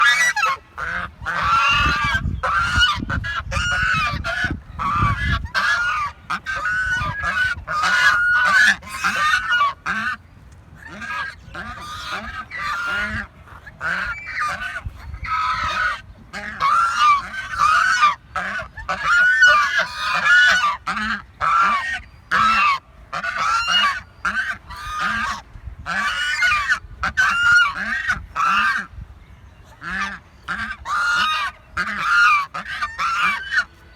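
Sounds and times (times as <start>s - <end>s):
geese honking: 0.0s - 10.2s, 10.8s - 29.0s, 29.7s - 33.9s.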